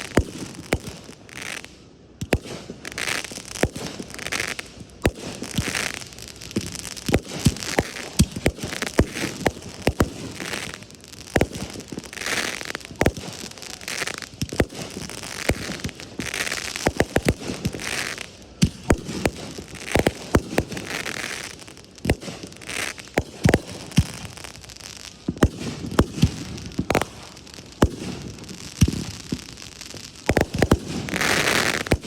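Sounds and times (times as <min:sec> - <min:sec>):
firework bangs: 0:00.0 - 0:32.0
firework crackling: 0:00.0 - 0:32.0.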